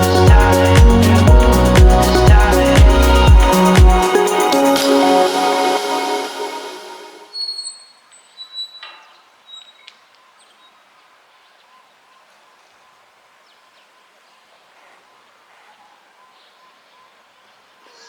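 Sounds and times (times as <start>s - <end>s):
faint outdoor background noise: 0.0s - 18.0s.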